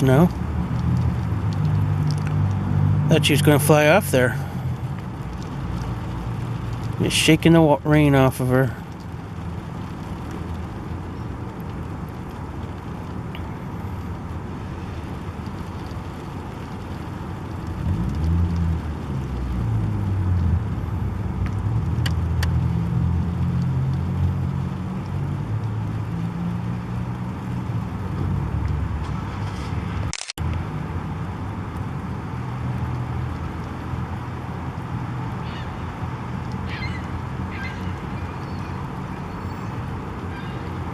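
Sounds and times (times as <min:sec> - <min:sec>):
city street traffic: 0:00.0 - 0:40.9
vehicle engine rumbling: 0:00.0 - 0:40.9.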